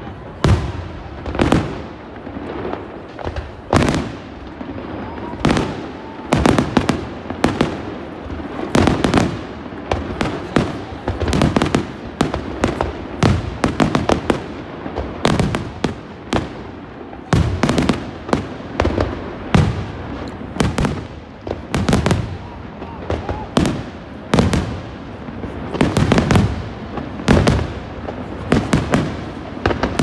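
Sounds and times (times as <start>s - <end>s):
fireworks bangs and pops: 0.0s - 30.0s.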